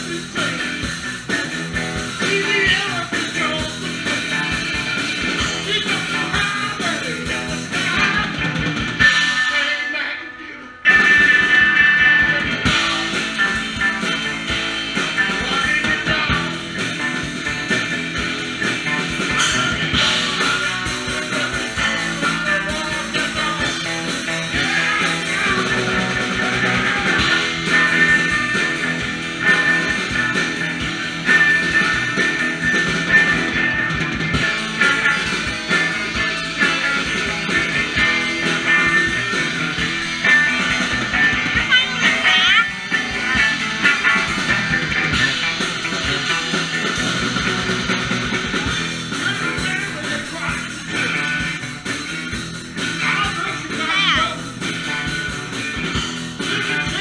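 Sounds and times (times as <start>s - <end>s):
bass guitar: 0.0s - 57.0s
drums: 0.0s - 57.0s
electric guitar: 0.0s - 57.0s
live rock band playing: 0.0s - 57.0s.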